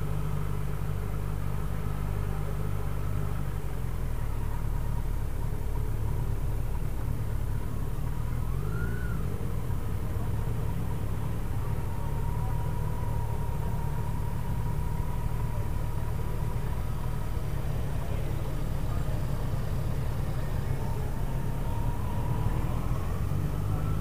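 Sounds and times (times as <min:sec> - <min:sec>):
faint thin whine: 0:04.2 - 0:24.0.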